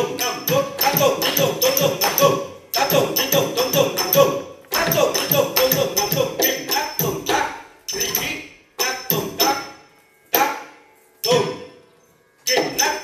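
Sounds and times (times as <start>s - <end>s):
ringing metallic percussive strokes: 0.0s - 13.0s.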